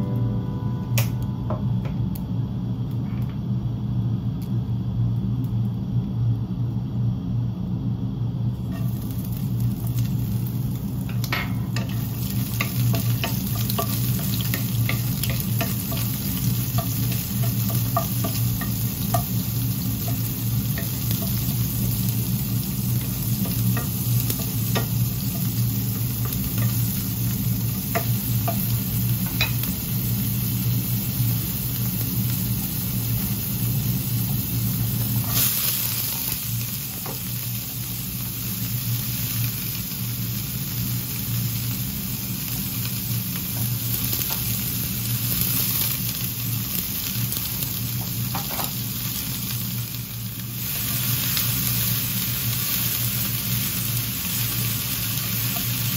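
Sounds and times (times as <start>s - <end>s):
steady low hum: 0.0s - 55.9s
oil hissing in frying pan: 8.6s - 55.9s
shrimps sizzling in hot oil: 8.6s - 55.9s.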